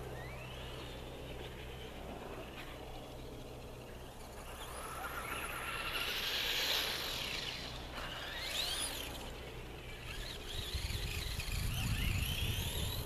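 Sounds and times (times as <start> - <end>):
toy truck electric motor whining: 0.0 - 13.0.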